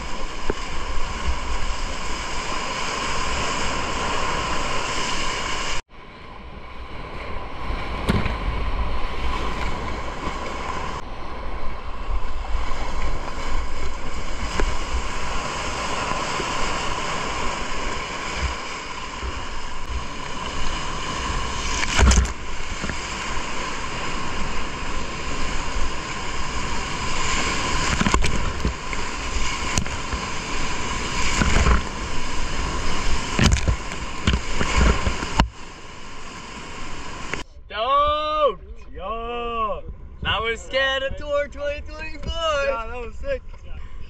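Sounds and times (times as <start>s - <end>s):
waves splashing over boat: 0.0s - 37.5s.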